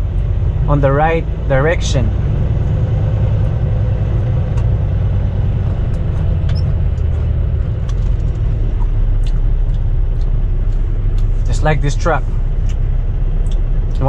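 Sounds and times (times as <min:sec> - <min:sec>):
road noise: 0:00.0 - 0:14.0
truck diesel engine rumble: 0:00.0 - 0:14.0.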